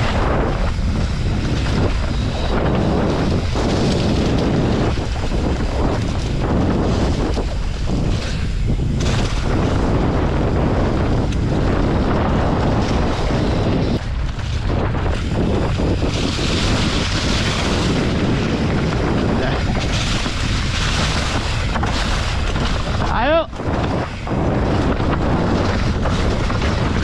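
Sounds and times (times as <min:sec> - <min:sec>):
mountain bike rumbling on dirt trail: 0:00.0 - 0:27.0
wind buffeting microphone: 0:00.0 - 0:27.0.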